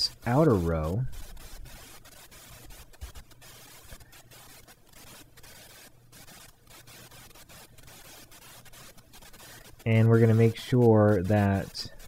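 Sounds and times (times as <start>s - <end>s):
microphone hiss: 0.0s - 12.0s.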